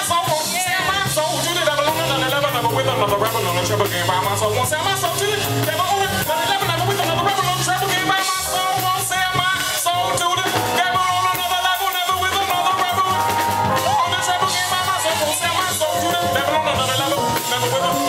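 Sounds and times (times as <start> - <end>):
drums: 0.0 - 18.0
electric bass: 0.0 - 18.0
keyboards: 0.0 - 18.0
man singing: 0.0 - 18.0.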